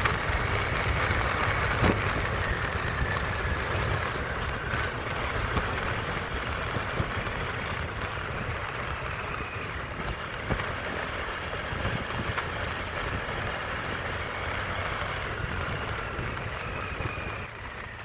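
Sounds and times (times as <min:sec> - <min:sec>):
motorbike engine and road rumble: 0:00.0 - 0:18.0.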